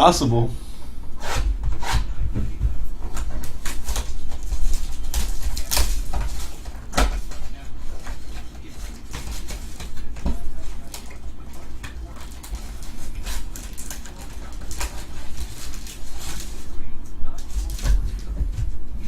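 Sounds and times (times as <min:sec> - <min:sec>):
cardboard and wrappers crackling: 0:03.0 - 0:18.9.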